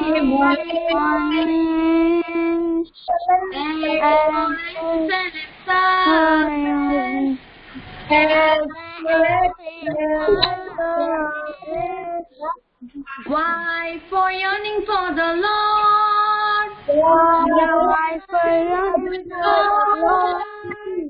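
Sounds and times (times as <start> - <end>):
woman and children singing: 0.0 - 21.0.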